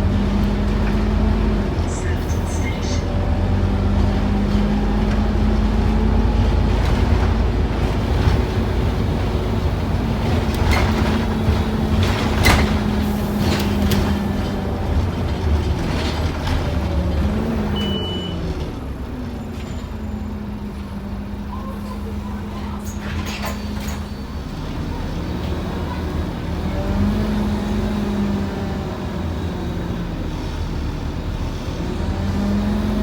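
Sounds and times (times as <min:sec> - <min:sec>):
bus engine drone: 0:00.0 - 0:33.0.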